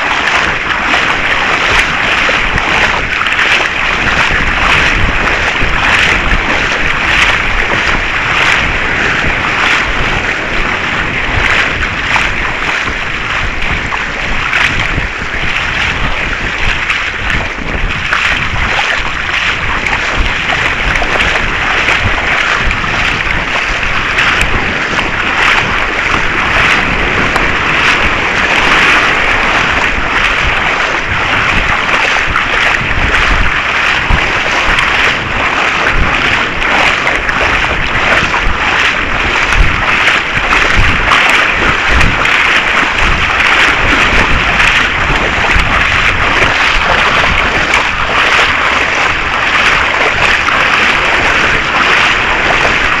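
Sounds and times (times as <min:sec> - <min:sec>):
low rumble: 0:00.0 - 0:51.4.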